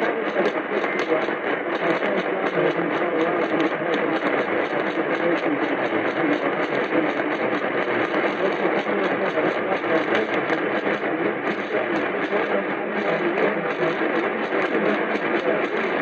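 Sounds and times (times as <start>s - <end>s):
radio static: 0.0s - 16.0s.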